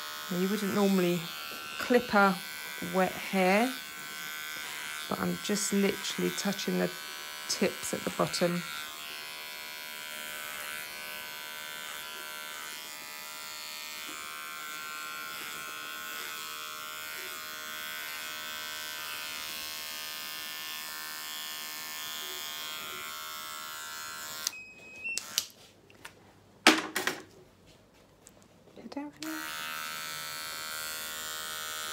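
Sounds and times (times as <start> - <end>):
hair clippers buzzing: 0.0 - 24.6, 25.2 - 25.6, 29.2 - 31.9.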